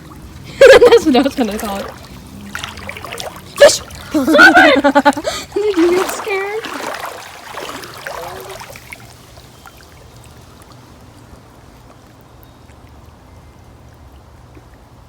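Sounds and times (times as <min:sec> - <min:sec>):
creek water trickling: 0:00.0 - 0:15.0.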